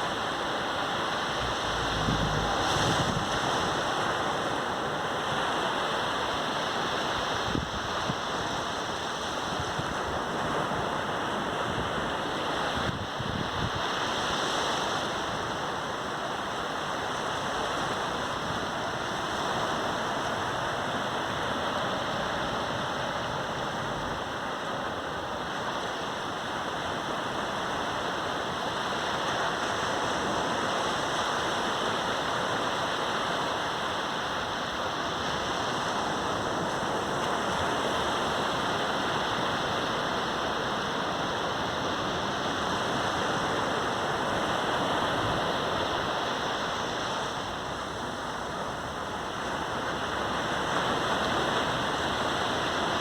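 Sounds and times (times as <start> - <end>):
surf washing up a sandy beach: 0.0 - 53.0.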